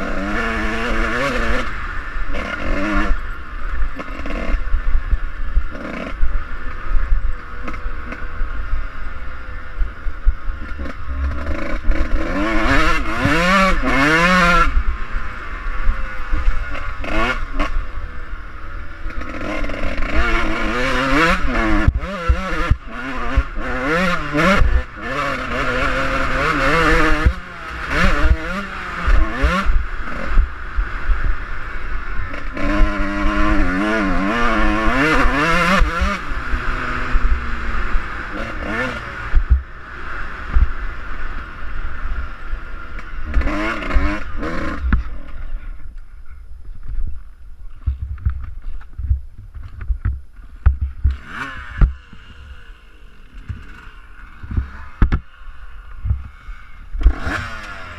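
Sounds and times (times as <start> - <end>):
dirt bike engine revving: 0.0 - 45.8, 49.5 - 57.9.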